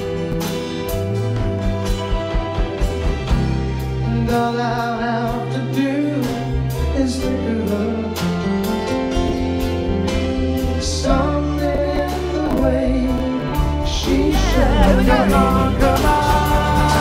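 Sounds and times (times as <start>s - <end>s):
bass and chords: 0.0s - 17.0s.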